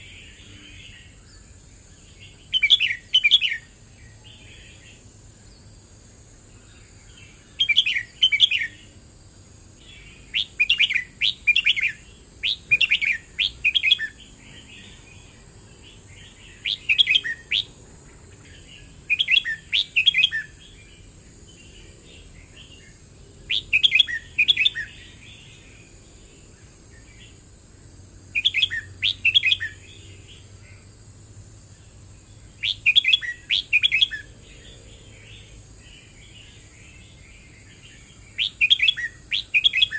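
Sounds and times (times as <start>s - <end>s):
bird singing bright notes: 0.0s - 5.7s, 6.6s - 8.9s, 9.8s - 27.4s, 28.4s - 30.5s, 32.5s - 39.9s.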